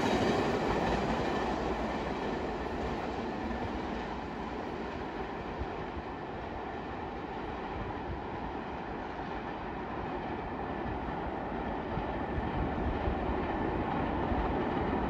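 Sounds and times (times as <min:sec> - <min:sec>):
subway train rumbling on track: 0:00.0 - 0:15.0.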